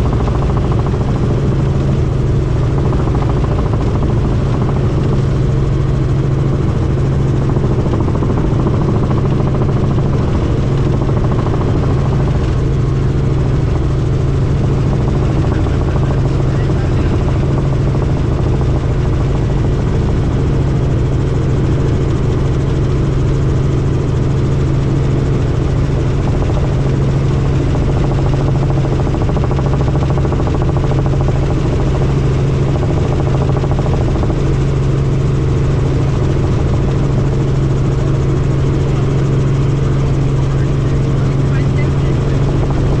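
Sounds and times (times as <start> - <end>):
helicopter engine and rotor: 0.0 - 43.0.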